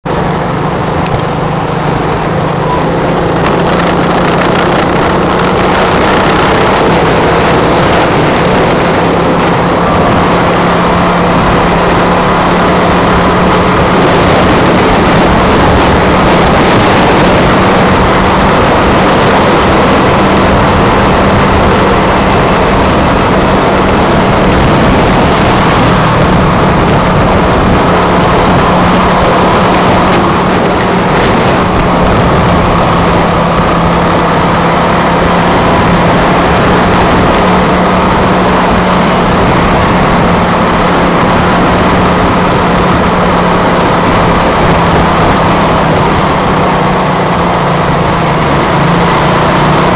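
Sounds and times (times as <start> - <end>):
engine hum: 0.0 - 49.9
wind and road noise: 0.0 - 49.9.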